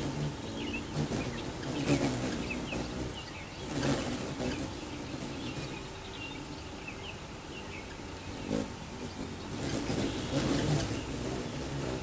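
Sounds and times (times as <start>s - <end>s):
hummingbird wings buzzing: 0.0s - 12.0s.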